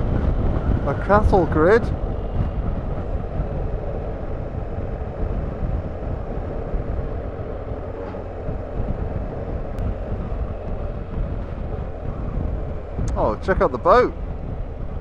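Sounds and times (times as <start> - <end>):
motorcycle engine drone: 0.0 - 15.0
road rumble: 0.0 - 15.0
wind: 0.0 - 15.0.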